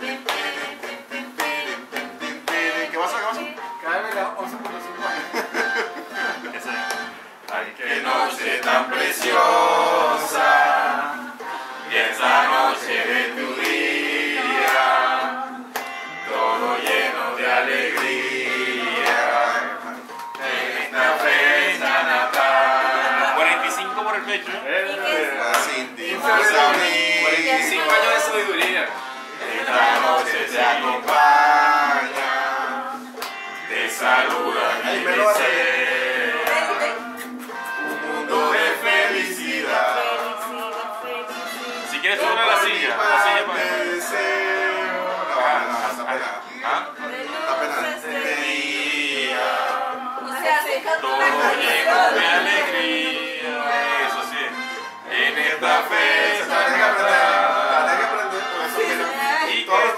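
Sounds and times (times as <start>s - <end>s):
group singing birthday song: 0.0s - 59.9s.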